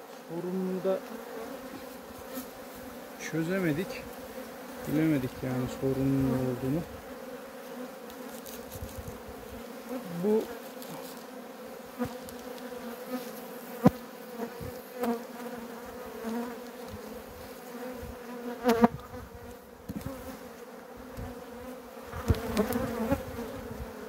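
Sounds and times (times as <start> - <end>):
honey bees buzzing: 0.0 - 24.0.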